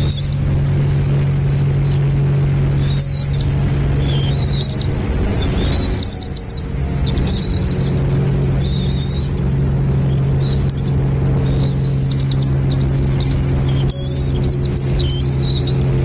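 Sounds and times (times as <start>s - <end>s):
bird chirping: 0.0s - 16.0s
low hum: 0.0s - 16.0s.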